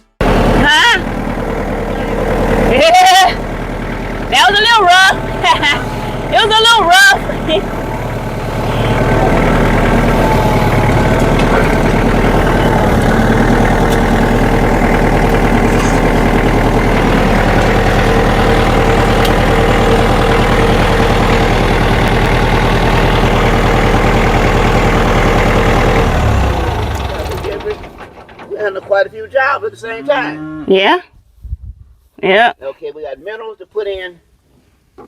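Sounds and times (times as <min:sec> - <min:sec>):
vehicle engine running: 0:00.0 - 0:30.2.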